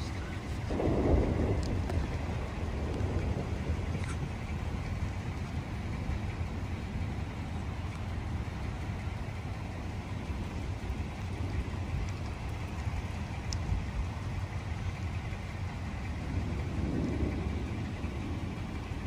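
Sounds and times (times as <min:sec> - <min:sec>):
low thunder rumble: 0:00.0 - 0:19.0
rain: 0:00.0 - 0:19.0.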